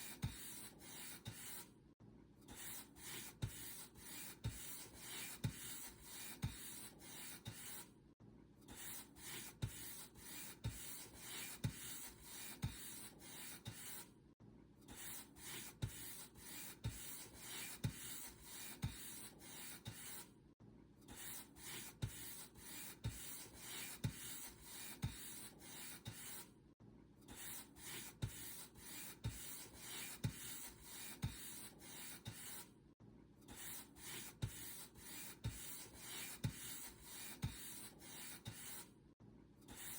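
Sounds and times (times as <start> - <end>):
paint brush stroking a surface: 0.0 - 1.7, 2.6 - 7.9, 8.8 - 14.1, 15.0 - 20.2, 21.2 - 26.4, 27.4 - 32.7, 33.5 - 38.9.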